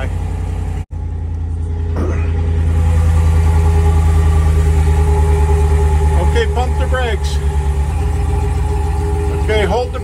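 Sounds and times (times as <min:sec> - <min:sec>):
pickup engine idling: 0:00.0 - 0:10.0.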